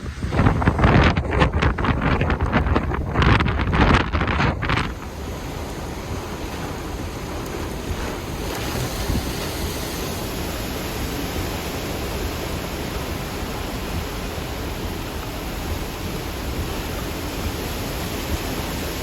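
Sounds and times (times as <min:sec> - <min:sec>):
strong wind on microphone: 0:00.0 - 0:19.0.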